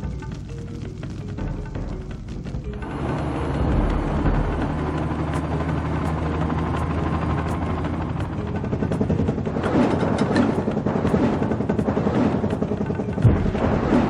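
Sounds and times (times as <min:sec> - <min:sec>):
heavy engine drone: 0:00.0 - 0:14.0.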